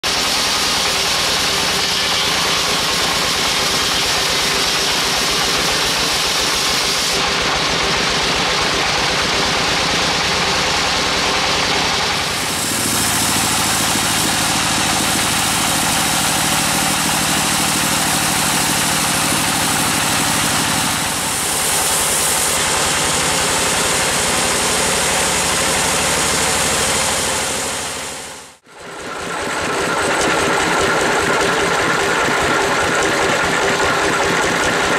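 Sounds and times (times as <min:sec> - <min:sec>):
band saw cutting a log: 0:00.0 - 0:34.9.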